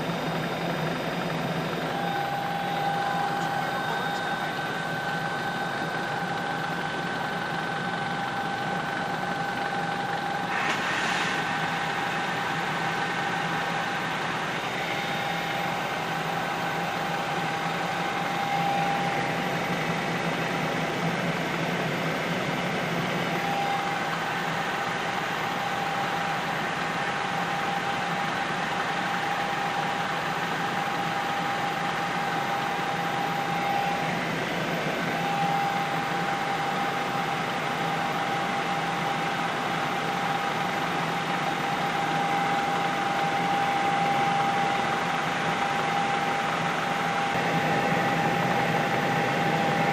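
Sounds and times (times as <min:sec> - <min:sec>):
helicopter engine and rotor noise: 0:00.0 - 0:49.9.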